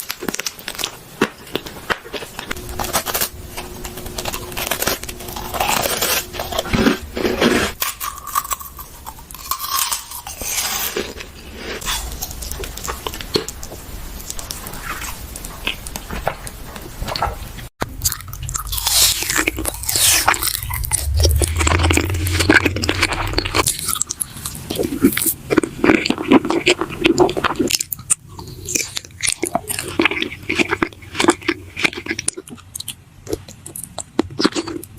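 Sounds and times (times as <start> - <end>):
crunchy chewing: 0.0 - 34.9.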